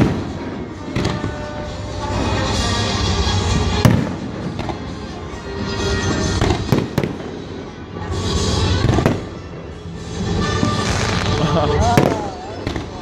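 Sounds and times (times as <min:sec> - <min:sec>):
fireworks exploding: 0:00.0 - 0:13.0
music playing: 0:00.0 - 0:13.0.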